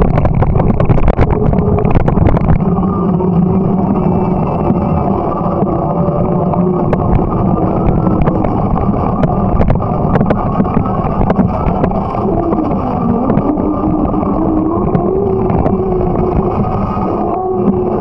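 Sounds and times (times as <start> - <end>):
bicycle tyres and wind rumble: 0.0 - 18.0
wavering hum: 0.0 - 18.0.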